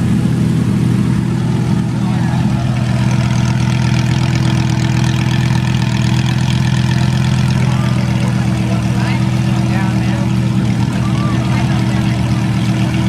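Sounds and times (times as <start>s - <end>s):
sports car engine idling: 0.0s - 13.0s.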